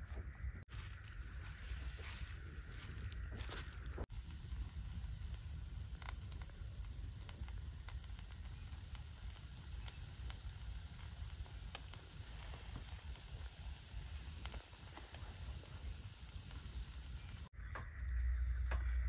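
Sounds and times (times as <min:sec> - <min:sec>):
crackles and pops from coals: 0:00.0 - 0:18.0
low steady rumble: 0:00.7 - 0:19.0.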